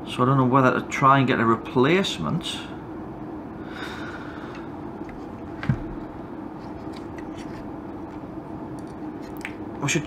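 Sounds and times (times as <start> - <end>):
equipment cooling fans humming: 0.0 - 10.0.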